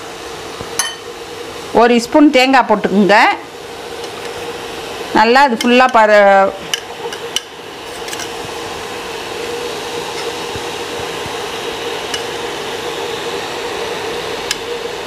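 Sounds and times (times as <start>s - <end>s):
cooling fan whirring: 0.0s - 15.0s.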